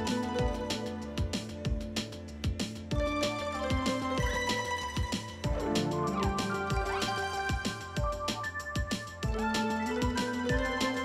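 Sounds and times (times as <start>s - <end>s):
drum hits: 0.0s - 11.0s.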